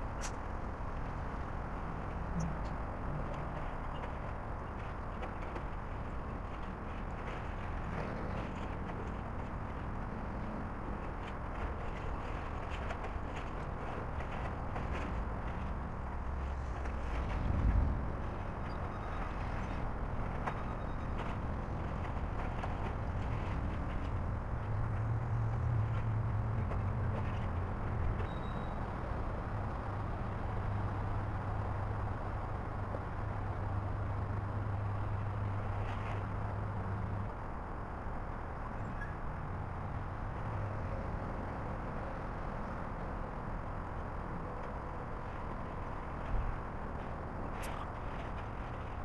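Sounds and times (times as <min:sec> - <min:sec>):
excavator low rumble: 0:00.0 - 0:49.0.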